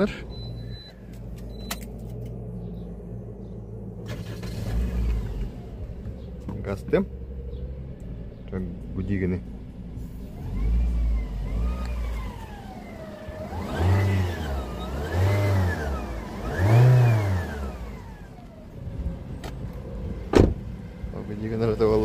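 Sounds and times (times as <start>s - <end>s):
car engine revving with whine: 0.0s - 22.0s.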